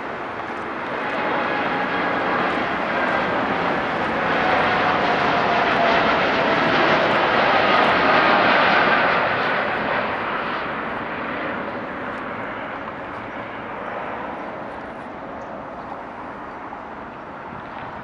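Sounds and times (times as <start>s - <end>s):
jet engine rush: 0.0s - 18.0s.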